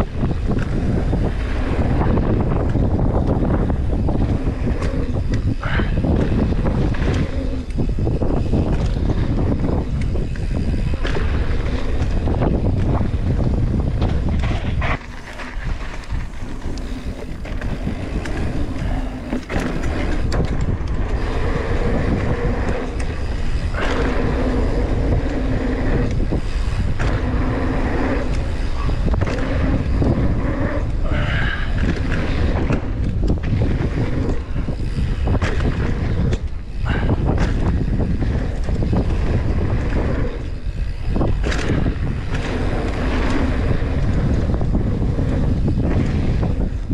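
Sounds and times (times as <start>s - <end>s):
bike tyre rumble on dirt: 0.0s - 46.9s
wind rushing over microphone: 0.0s - 46.9s.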